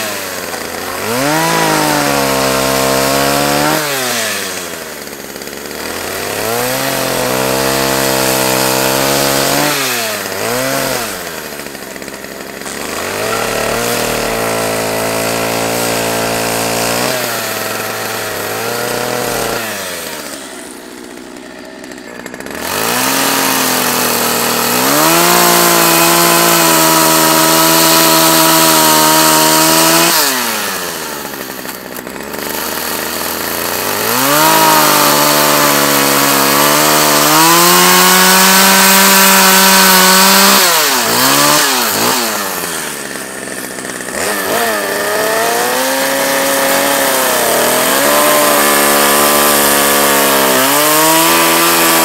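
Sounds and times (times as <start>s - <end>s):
chainsaw cutting log: 0.0s - 52.0s.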